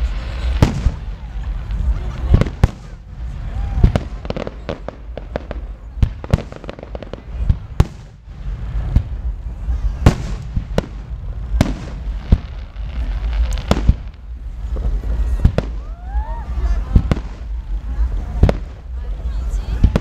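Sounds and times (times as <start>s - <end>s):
firework crackling: 0.0s - 20.0s
low rumble: 0.0s - 20.0s.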